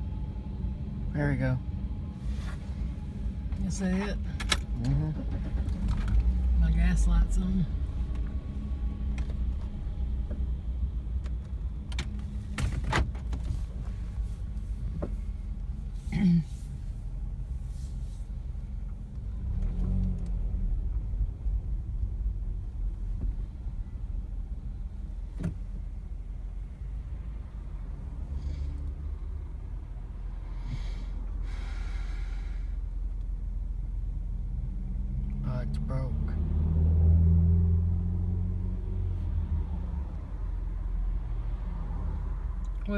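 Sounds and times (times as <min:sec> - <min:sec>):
car engine running: 0:00.0 - 0:36.2.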